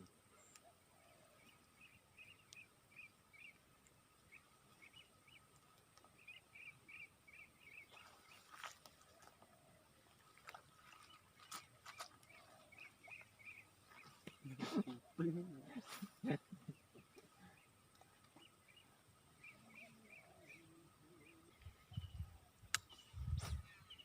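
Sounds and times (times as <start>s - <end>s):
faint outdoor ambience: 0.0s - 24.0s.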